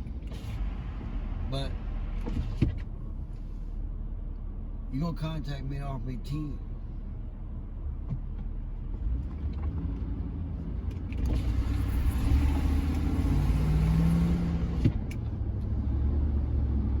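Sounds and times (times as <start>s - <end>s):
road and engine noise in cab: 0.0s - 17.0s.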